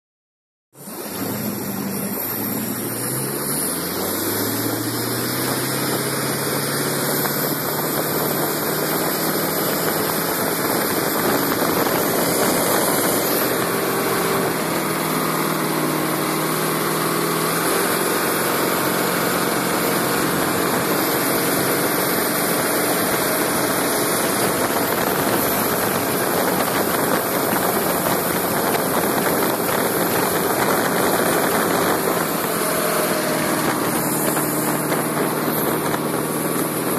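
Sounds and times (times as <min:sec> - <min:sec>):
boat engine accelerating: 0:00.8 - 0:36.9
wind and water spray rushing: 0:00.8 - 0:36.9.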